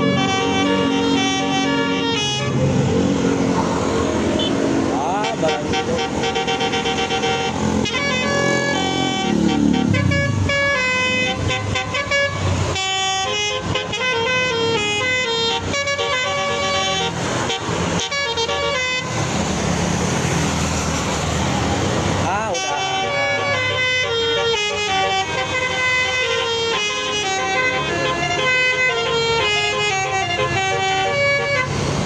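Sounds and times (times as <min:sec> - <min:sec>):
musical bus horn melody: 0:00.0 - 0:02.8, 0:04.3 - 0:19.2, 0:22.4 - 0:31.8
engine and traffic rumble: 0:00.0 - 0:32.0.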